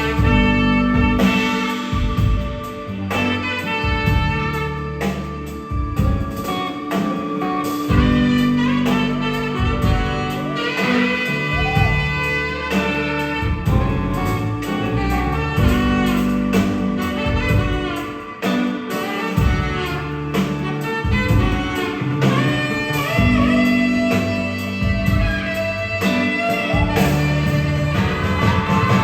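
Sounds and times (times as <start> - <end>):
instrumental music with beat: 0.0 - 29.0.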